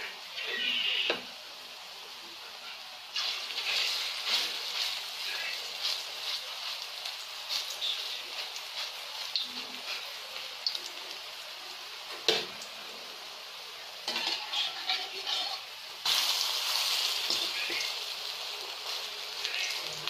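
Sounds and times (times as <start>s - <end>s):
oil sizzling and crackling: 0.0s - 20.0s.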